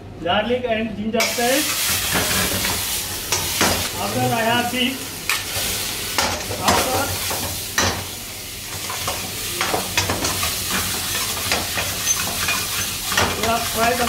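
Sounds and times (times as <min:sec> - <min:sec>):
meat sizzling in a wok: 0:01.2 - 0:14.0.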